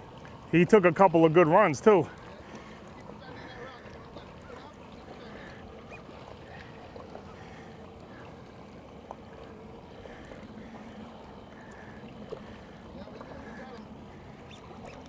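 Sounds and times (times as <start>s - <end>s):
boat engine running: 0.0s - 15.0s
wind: 0.0s - 15.0s.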